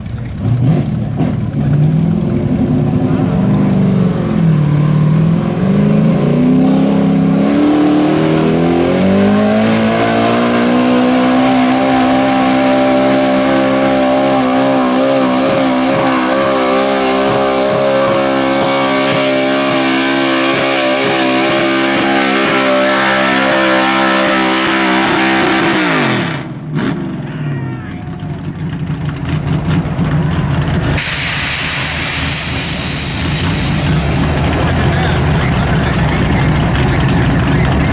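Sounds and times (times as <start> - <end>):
truck engine under full load: 0.0 - 37.9.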